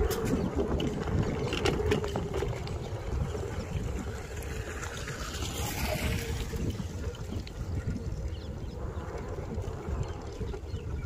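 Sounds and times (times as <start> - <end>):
scooter rattling over bumps: 0.0 - 11.0
scooter wheels rumbling: 0.0 - 11.0
wind on microphone: 0.0 - 11.0.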